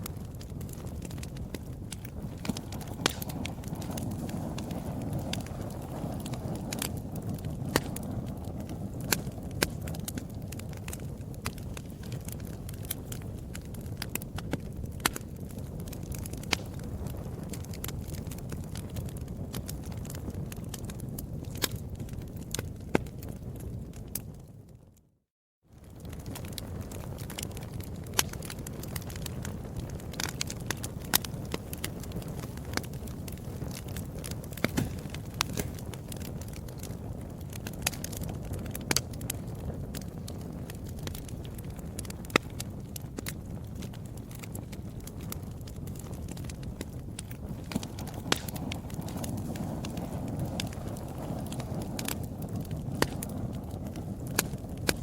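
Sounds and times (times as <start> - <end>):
fire crackling in fireplace: 0.0 - 55.0
low rumble of flames: 0.0 - 55.0.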